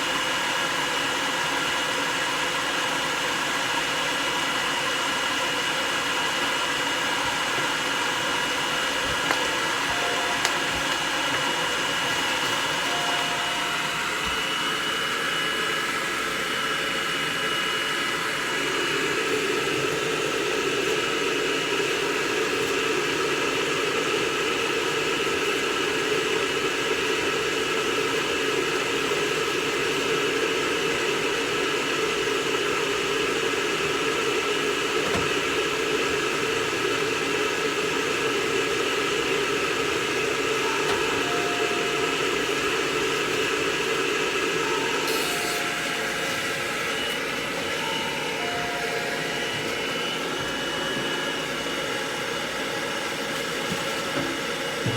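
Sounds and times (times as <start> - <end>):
hair dryer running: 0.0 - 54.9.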